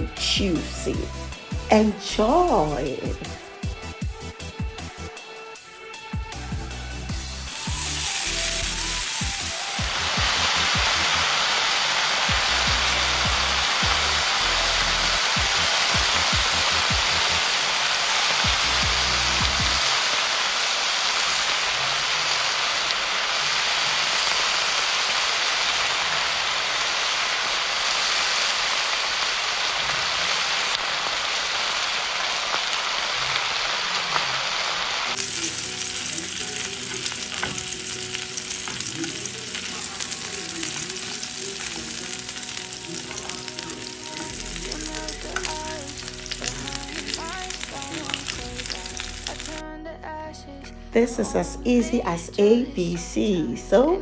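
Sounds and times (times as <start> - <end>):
meat sizzling in a pan: 0.4 - 49.6.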